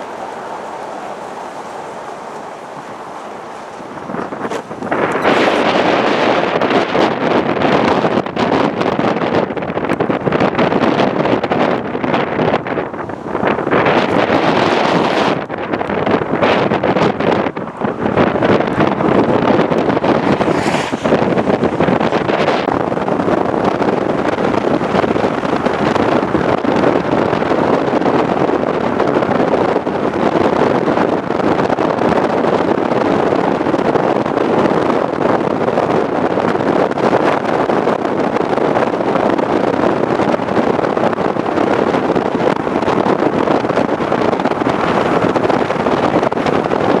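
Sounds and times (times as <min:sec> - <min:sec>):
strong wind on microphone: 0:00.0 - 0:47.0.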